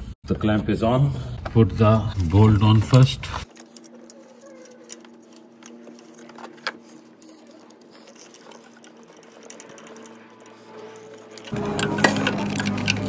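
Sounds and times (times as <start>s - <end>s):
clicks and knocks of handling: 2.1s - 13.0s.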